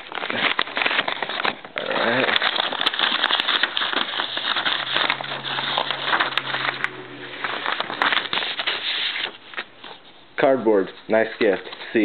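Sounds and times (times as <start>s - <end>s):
packaging being torn open: 0.0s - 9.7s
cardboard and paper rustling: 0.0s - 12.0s.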